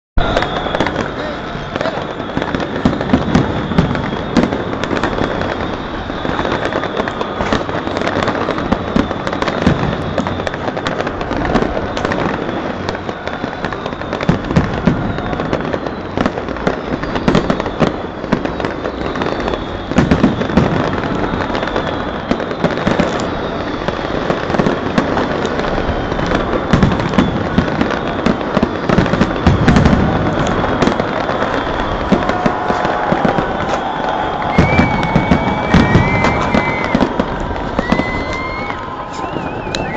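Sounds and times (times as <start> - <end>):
fireworks bangs and crackles: 0.2 - 39.9.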